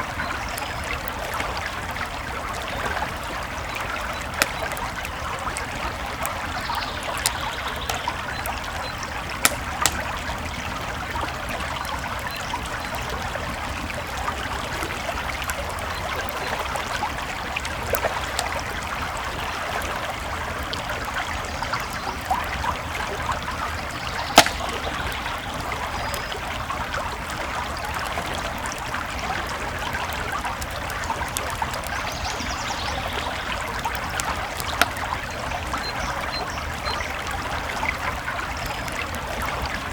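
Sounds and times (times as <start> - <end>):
campfire crackling and popping: 0.0 - 39.9
creek water flowing: 0.0 - 39.9.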